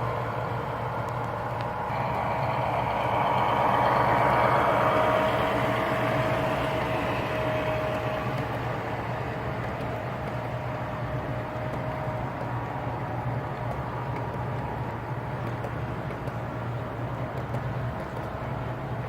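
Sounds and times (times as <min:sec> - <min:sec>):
model train humming past: 0:00.0 - 0:15.7.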